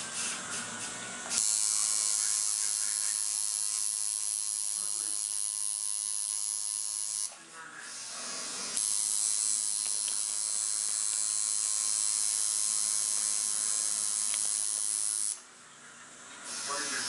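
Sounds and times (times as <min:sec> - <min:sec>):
tattoo machine buzzing: 0:00.0 - 0:15.4, 0:16.4 - 0:17.0.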